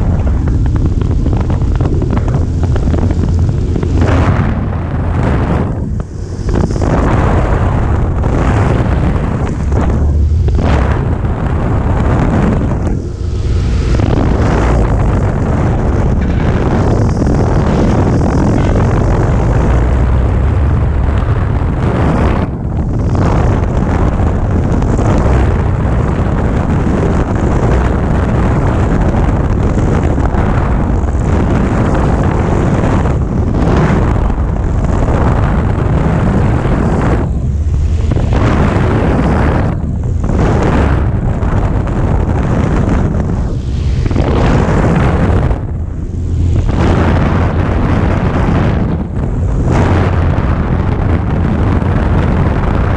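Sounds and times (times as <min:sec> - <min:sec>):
airplane engine and propeller: 0:00.0 - 0:52.9
wind buffeting microphone: 0:00.0 - 0:52.9.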